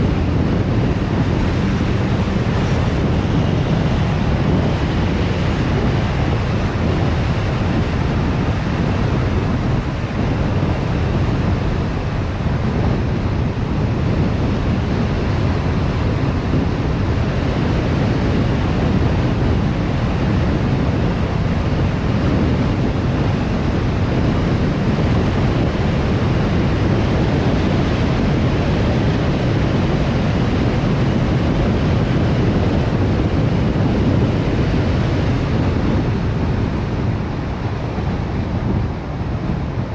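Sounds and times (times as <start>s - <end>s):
car tyre rumble: 0.0s - 39.9s
wind noise: 0.0s - 39.9s.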